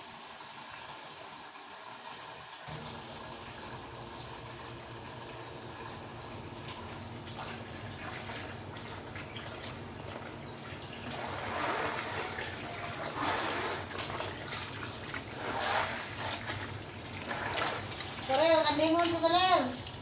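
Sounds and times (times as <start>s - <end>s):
hose water splashing into basin: 0.0s - 20.0s.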